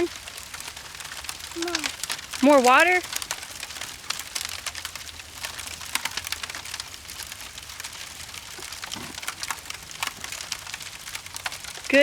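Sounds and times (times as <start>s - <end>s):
water spattering onto a surface: 0.0s - 12.0s.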